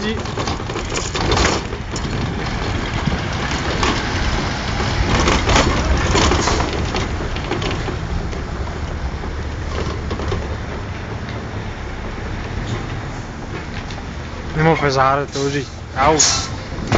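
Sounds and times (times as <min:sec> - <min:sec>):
crunching rattling noise: 0:00.0 - 0:15.0, 0:15.6 - 0:16.9
heavy diesel engine running: 0:00.0 - 0:16.9.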